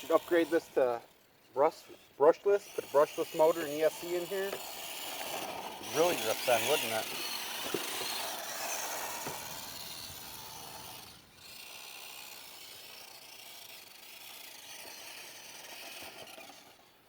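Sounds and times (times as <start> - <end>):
electric motor whine: 0.0 - 1.2, 1.8 - 17.0
tyres scraping: 0.0 - 17.0.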